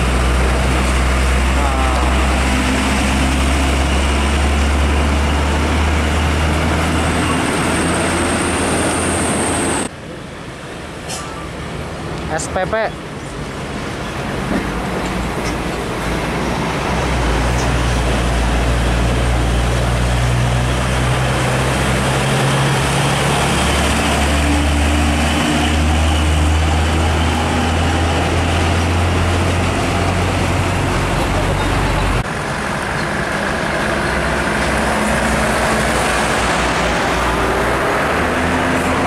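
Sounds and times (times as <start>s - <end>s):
truck diesel engine: 0.0s - 39.0s
tyre and road noise: 0.0s - 39.0s.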